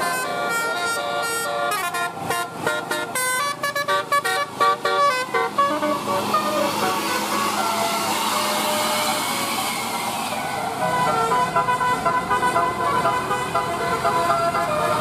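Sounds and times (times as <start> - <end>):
bus multi-tone horn tune: 0.0 - 15.0
vehicle noise: 0.0 - 15.0.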